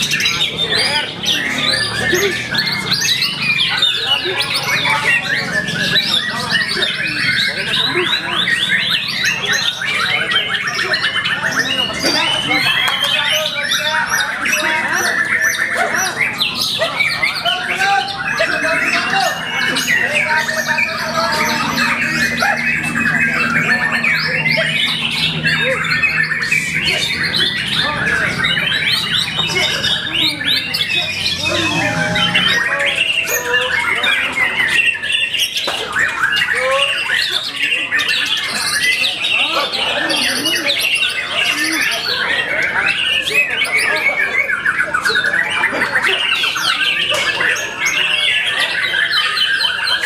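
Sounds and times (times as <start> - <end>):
birds singing rapid whistles and trills: 0.0 - 50.0.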